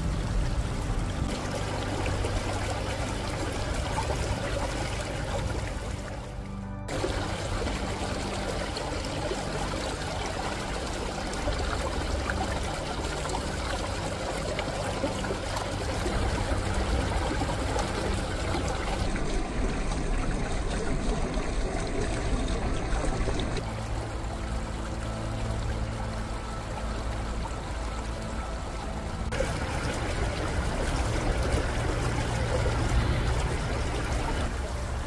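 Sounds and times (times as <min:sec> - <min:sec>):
stream trickling and gurgling: 0:00.0 - 0:35.0.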